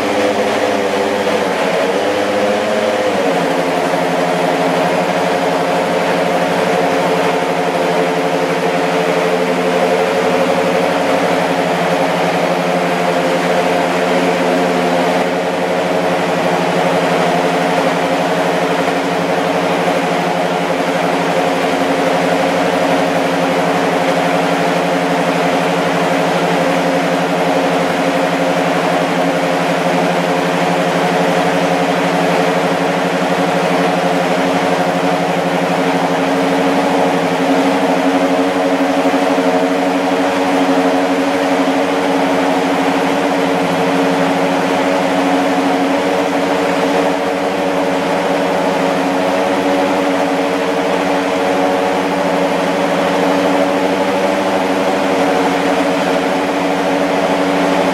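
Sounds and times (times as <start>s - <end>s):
race car engine idling: 0.0s - 57.9s.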